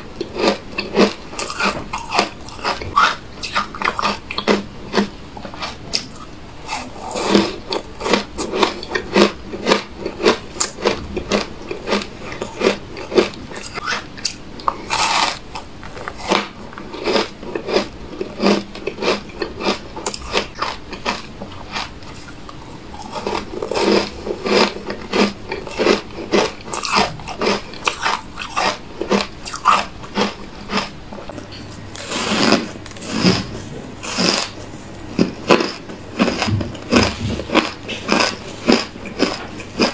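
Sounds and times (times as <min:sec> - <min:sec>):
ice chunks crunching being chewed: 0:00.0 - 0:39.9.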